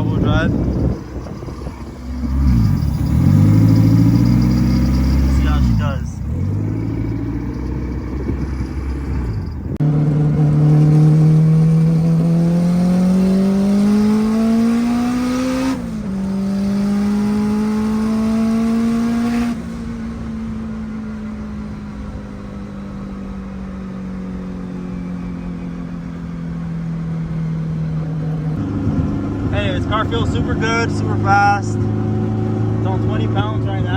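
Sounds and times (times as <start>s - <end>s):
turbocharged car engine accelerating: 0.0s - 33.9s.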